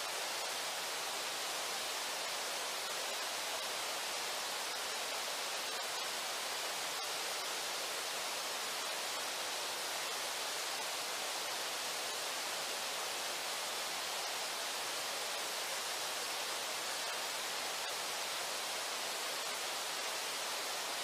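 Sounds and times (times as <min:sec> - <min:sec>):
river flowing over rocks: 0:00.0 - 0:21.0.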